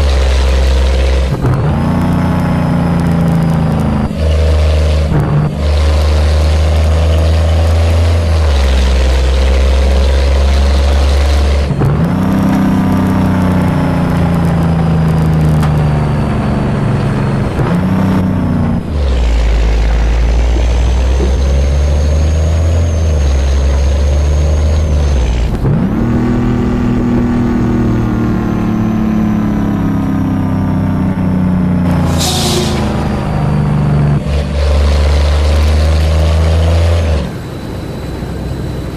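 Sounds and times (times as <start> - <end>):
truck engine under load: 0.0 - 38.9.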